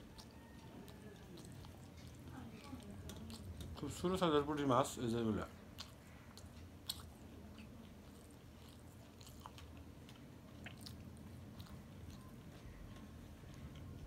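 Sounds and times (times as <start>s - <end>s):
man chewing food: 0.0s - 14.0s.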